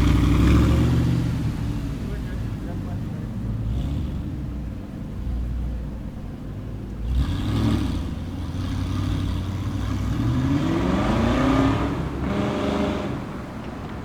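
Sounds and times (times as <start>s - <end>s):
car engine rumbling and revving: 0.0s - 14.0s.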